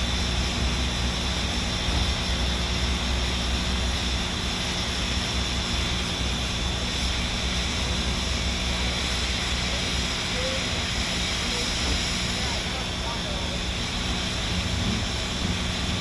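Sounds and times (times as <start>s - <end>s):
low hum and rumble: 0.0s - 16.0s
steam hissing: 0.0s - 16.0s.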